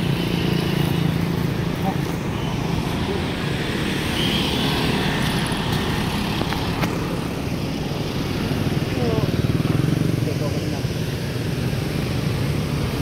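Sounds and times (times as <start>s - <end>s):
motorbike engines running: 0.0s - 13.0s.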